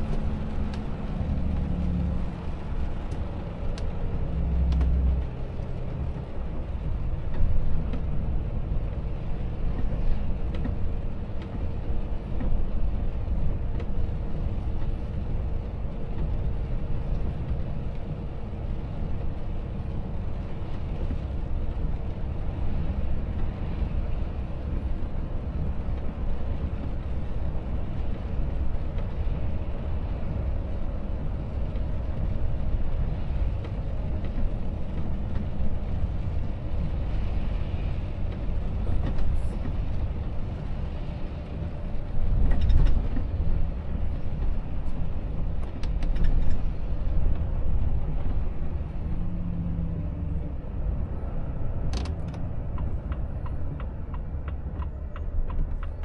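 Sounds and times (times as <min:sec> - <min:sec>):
truck engine and tyre rumble: 0:00.0 - 0:56.0.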